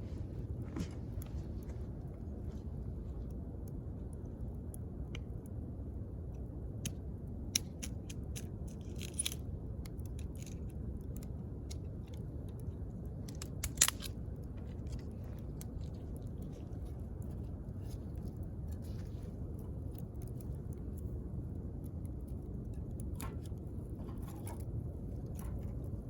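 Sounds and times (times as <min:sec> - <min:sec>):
campfire flame rushing: 0:00.0 - 0:26.0
fire crackling and popping: 0:00.1 - 0:26.0.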